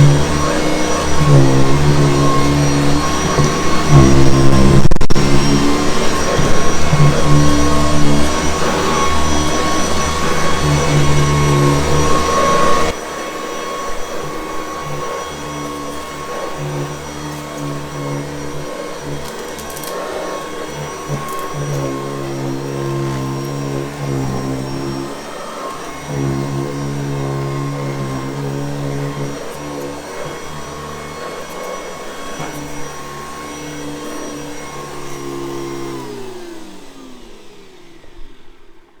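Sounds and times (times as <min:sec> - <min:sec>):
vacuum cleaner motor hum: 0:00.0 - 0:39.0.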